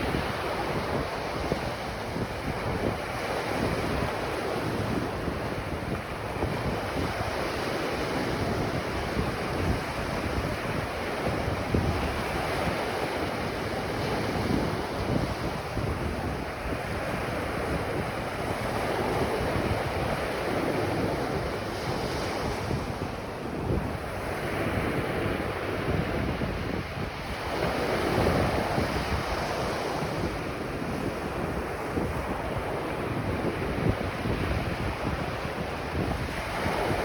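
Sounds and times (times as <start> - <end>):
ocean waves breaking: 0.0 - 37.0
wind buffeting microphone: 0.0 - 37.0.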